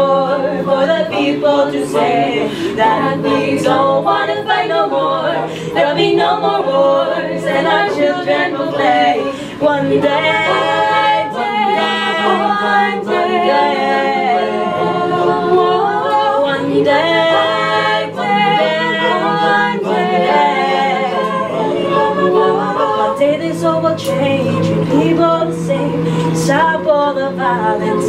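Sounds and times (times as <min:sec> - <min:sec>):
a cappella group singing: 0:00.0 - 0:28.0.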